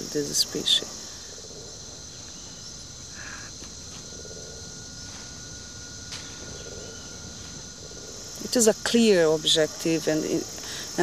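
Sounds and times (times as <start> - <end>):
insects droning: 0.0 - 11.0
thin insect tone: 0.0 - 11.0.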